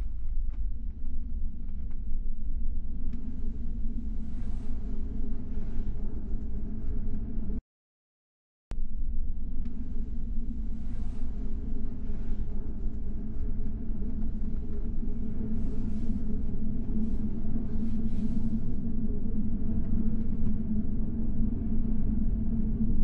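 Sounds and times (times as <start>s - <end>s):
steady low rumble: 0.0s - 7.6s, 8.7s - 23.0s.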